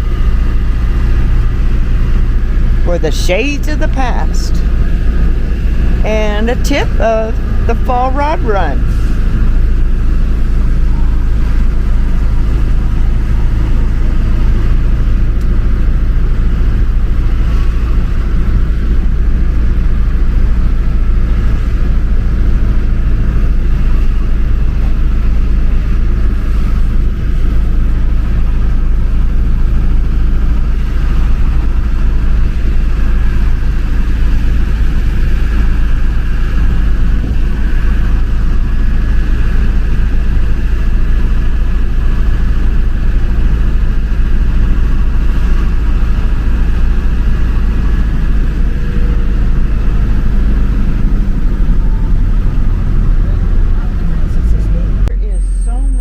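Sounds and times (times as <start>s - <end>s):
vehicle road and engine drone: 0.0s - 56.0s.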